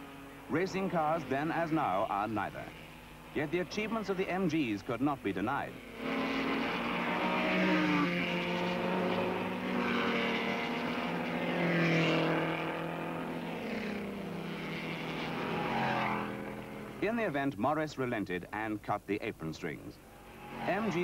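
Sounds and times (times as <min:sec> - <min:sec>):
racing car engines passing: 0:00.0 - 0:17.2, 0:20.0 - 0:21.0.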